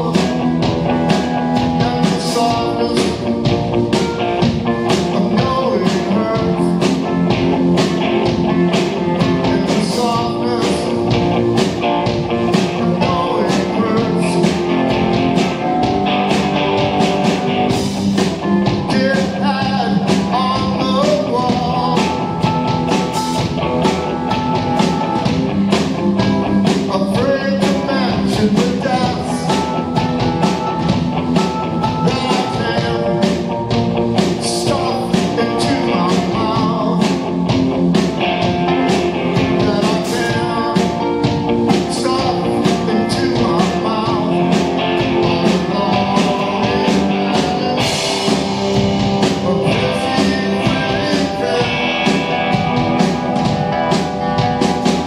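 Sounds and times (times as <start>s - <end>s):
man singing: 0.0s - 16.0s, 18.6s - 23.6s, 26.6s - 30.8s, 31.8s - 37.6s, 38.4s - 48.5s, 49.2s - 53.0s
live rock band playing: 0.0s - 55.0s.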